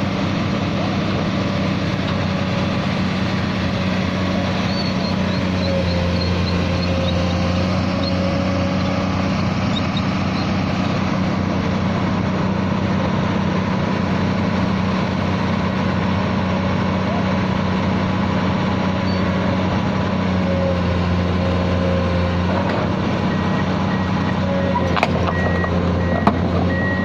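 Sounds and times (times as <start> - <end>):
excavator diesel engine humming: 0.0 - 27.0.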